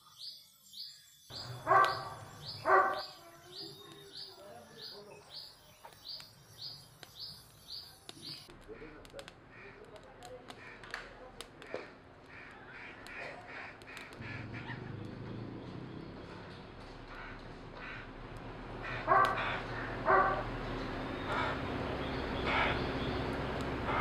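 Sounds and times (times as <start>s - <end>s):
bird calling: 1.3s - 11.0s, 11.6s - 18.1s, 18.8s - 24.0s
wood fire crackling: 1.3s - 14.4s, 16.4s - 24.0s.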